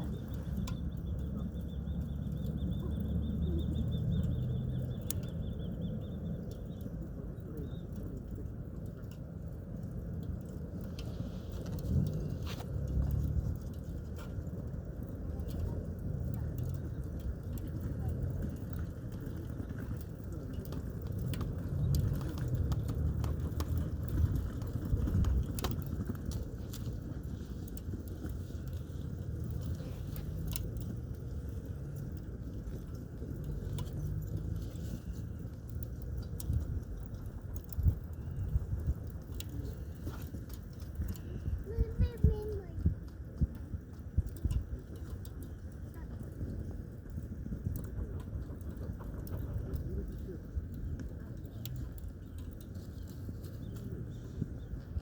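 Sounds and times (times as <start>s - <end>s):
campfire rumble: 0.0s - 55.0s
fire crackling pops: 0.0s - 55.0s.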